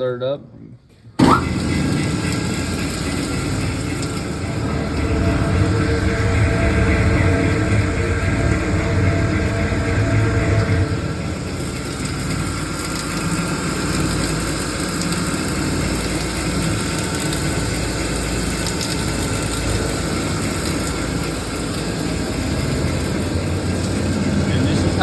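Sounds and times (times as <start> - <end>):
mixer grinder motor running: 1.2 - 25.0.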